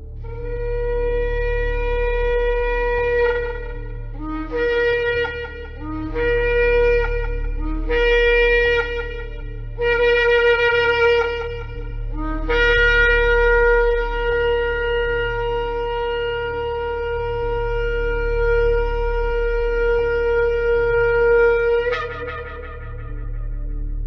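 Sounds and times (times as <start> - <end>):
shofar blast: 0.0 - 23.7
steady low hum: 0.0 - 24.0.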